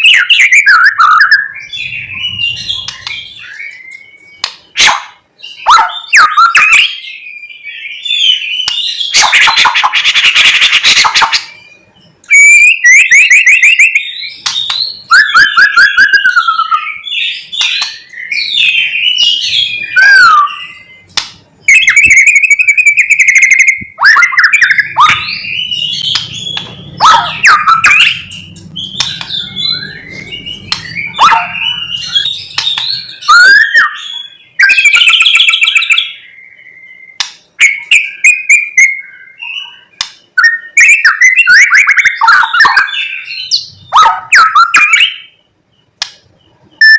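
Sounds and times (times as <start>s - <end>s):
songbird singing varied phrases: 0.0s - 46.9s.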